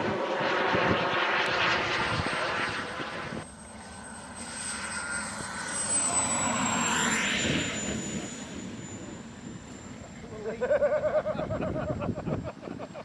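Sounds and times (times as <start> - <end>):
jet turbine engine whine: 0.0 - 13.0.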